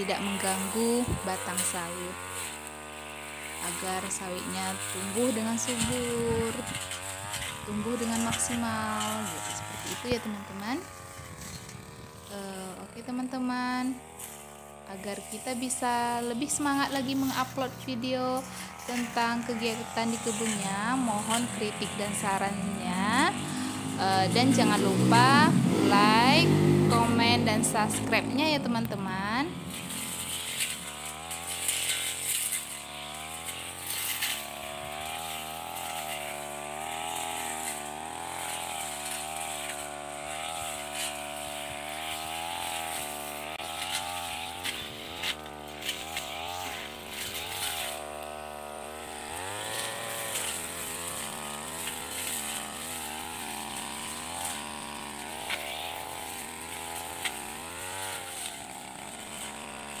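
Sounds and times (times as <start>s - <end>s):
brush cutter engine running: 0.0s - 60.0s.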